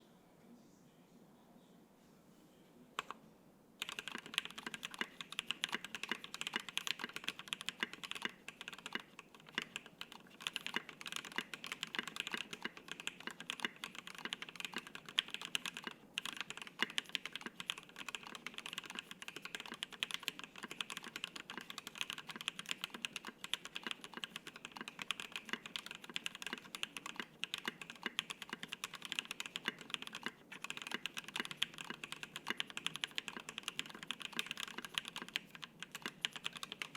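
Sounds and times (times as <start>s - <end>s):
fast mechanical keyboard typing: 3.8s - 36.9s.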